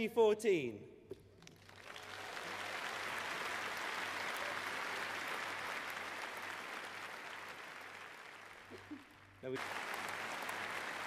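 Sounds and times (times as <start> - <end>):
large audience applauding: 1.4 - 11.0.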